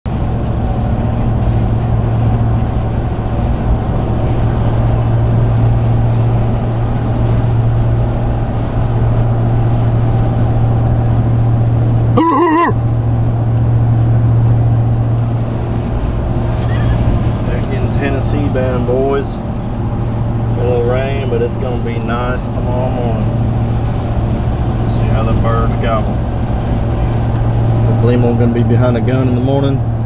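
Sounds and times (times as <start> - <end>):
motor vehicle driving drone: 0.1 - 30.0.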